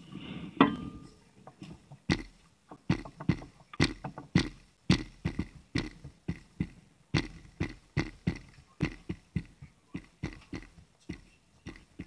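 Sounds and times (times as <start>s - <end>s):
sharp knocks: 2.1s - 12.0s.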